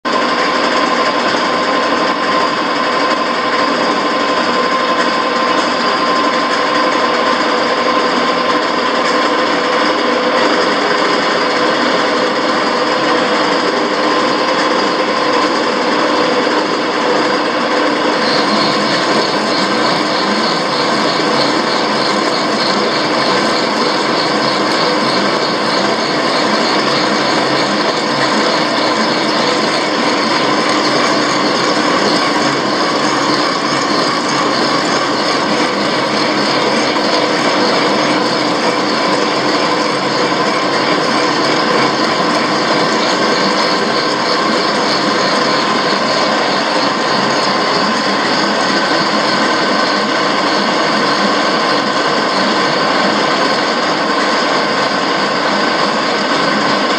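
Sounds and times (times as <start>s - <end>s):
milling machine cutting steel: 0.3s - 56.9s.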